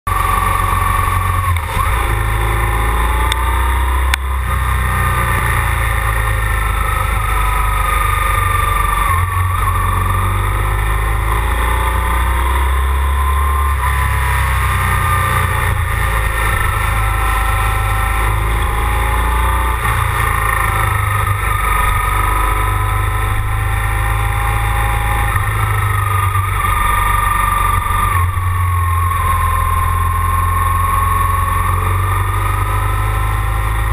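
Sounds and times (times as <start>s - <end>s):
motorcycle engine riding: 0.1s - 33.9s.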